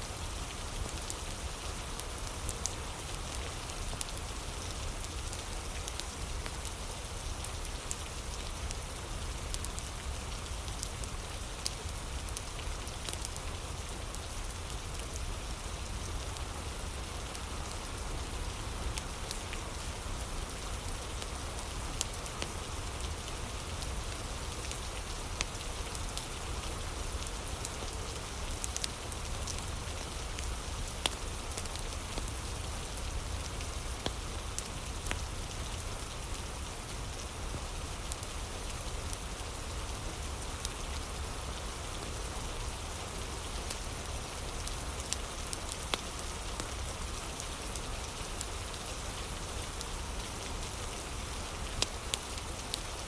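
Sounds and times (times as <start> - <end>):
steady rain hiss: 0.0 - 53.0
fire crackling and popping: 1.9 - 17.8, 18.5 - 39.6, 43.1 - 53.0.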